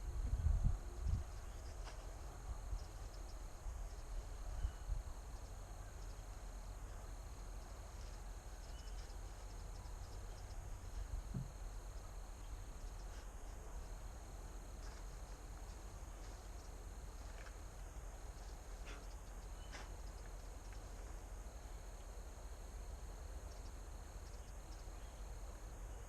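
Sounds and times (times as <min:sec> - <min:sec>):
high insect chirring: 0:01.0 - 0:26.0.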